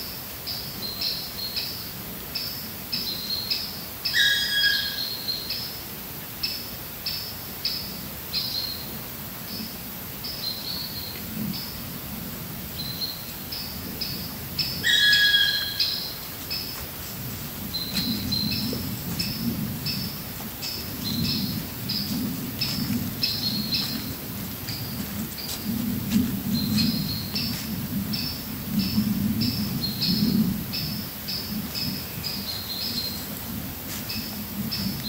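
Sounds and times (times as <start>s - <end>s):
songbirds chirping: 0.4s - 35.0s.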